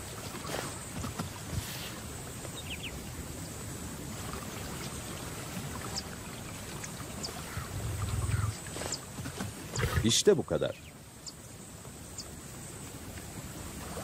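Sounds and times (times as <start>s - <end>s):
trickling shallow water: 0.0s - 14.0s.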